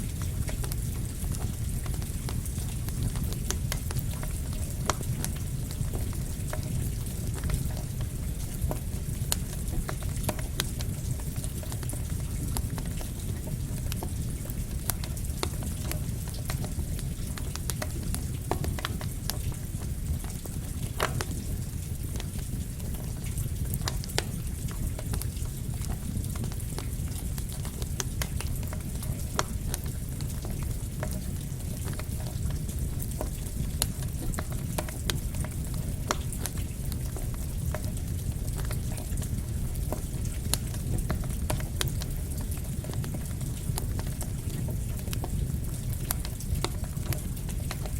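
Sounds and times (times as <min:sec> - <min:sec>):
campfire crackling and popping: 0:00.0 - 0:47.9
rain falling: 0:00.0 - 0:47.9.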